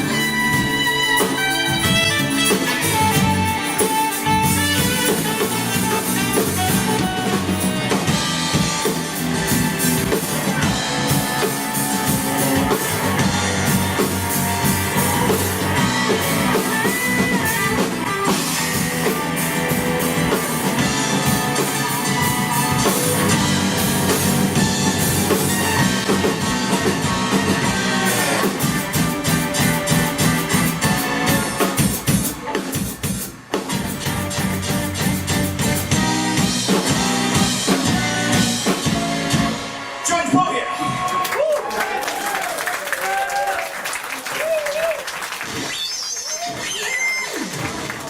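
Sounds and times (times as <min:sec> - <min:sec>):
electric guitar: 0:00.0 - 0:40.1
drum kit: 0:00.0 - 0:48.0.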